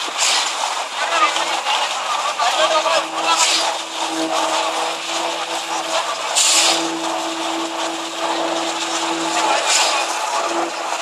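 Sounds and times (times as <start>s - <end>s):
concrete pump humming: 0.0s - 11.0s.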